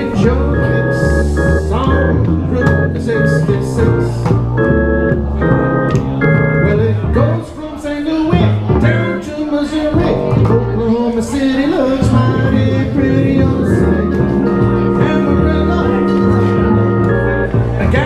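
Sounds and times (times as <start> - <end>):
jazz organ chords: 0.0 - 7.6, 8.3 - 18.0
walking upright bass line: 0.0 - 18.0.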